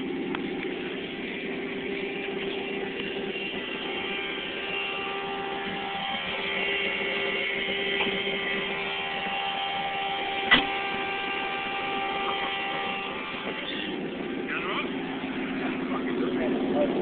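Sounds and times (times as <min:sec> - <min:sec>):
steady multi-tone hum: 0:00.0 - 0:17.0.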